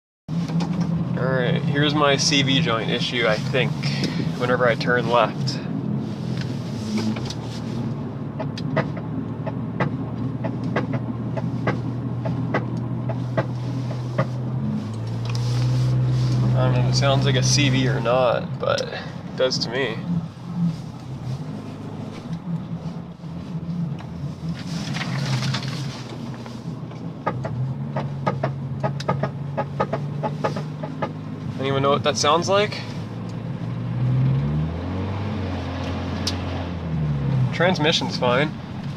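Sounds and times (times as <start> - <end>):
car engine and road drone: 0.3 - 38.9.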